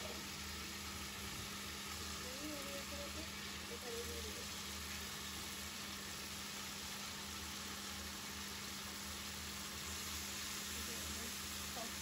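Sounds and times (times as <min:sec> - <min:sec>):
curry sizzling and bubbling in a pan: 0:00.0 - 0:12.0
pot of water boiling: 0:00.0 - 0:12.0.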